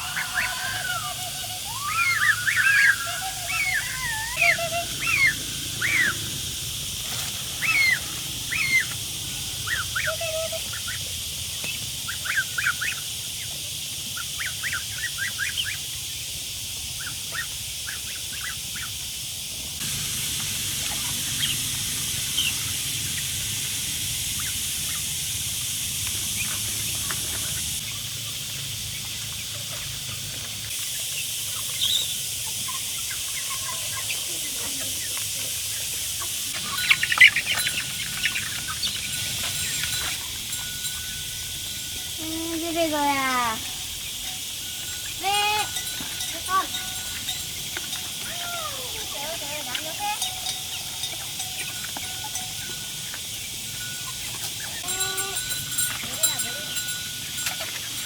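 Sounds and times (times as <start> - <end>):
chickens chirping and clucking: 0.0 - 19.2, 19.8 - 58.0
steady high-pitched hiss: 0.0 - 58.0.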